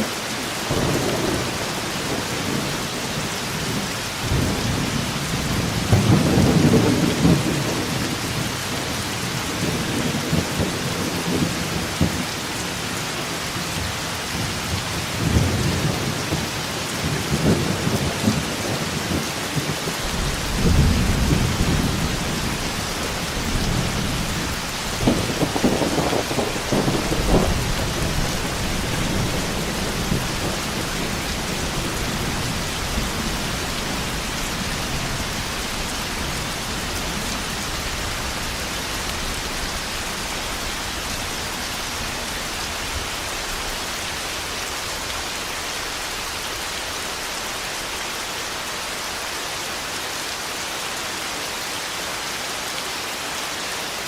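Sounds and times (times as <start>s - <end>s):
rain falling: 0.0s - 54.0s
thunder rumbling and cracking: 0.7s - 12.4s, 13.8s - 46.9s.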